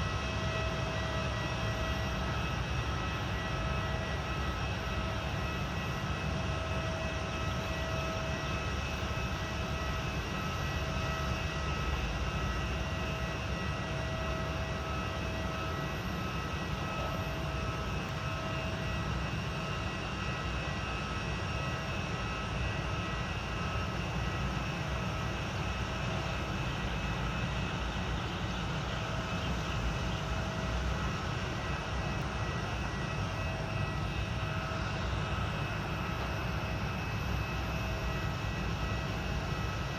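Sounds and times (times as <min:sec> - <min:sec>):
jet airliner engines running: 0:00.0 - 0:39.9.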